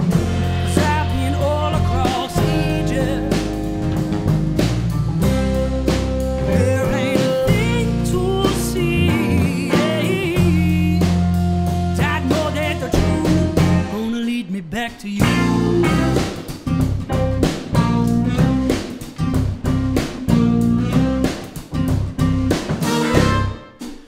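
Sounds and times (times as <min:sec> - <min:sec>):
electric guitar: 0:00.0 - 0:14.3, 0:15.2 - 0:24.0
acoustic guitar: 0:00.0 - 0:14.4, 0:15.2 - 0:24.0
bass guitar: 0:00.0 - 0:14.4, 0:15.2 - 0:23.8
drum kit: 0:00.0 - 0:14.4, 0:15.1 - 0:24.0.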